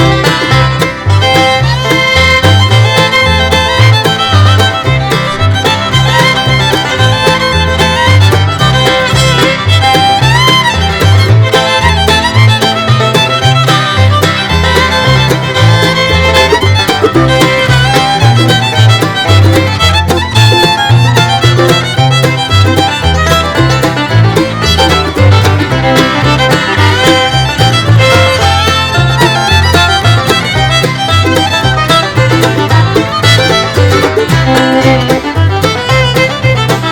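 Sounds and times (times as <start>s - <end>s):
fiddle playing bluegrass: 0.0s - 36.9s
walking bass line: 0.0s - 36.9s.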